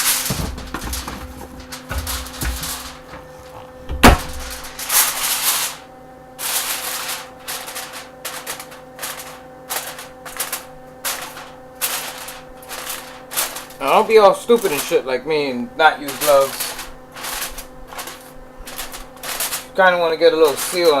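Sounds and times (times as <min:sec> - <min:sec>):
aluminium foil crinkling: 0:00.0 - 0:21.0.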